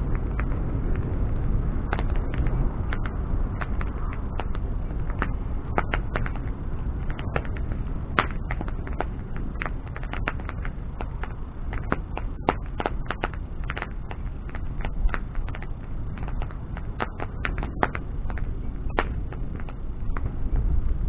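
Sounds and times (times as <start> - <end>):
bonfire flames roaring: 0.0 - 21.0
burning wood crackling and popping: 0.0 - 21.0.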